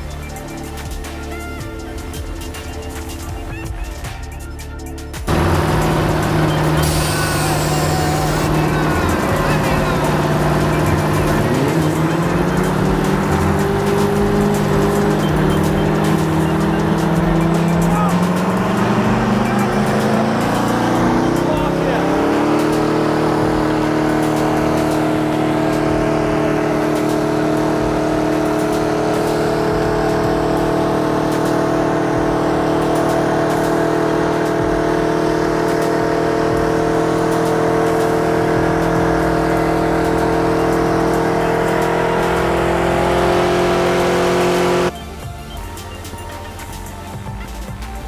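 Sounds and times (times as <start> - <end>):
truck engine revving high: 0.0 - 48.0.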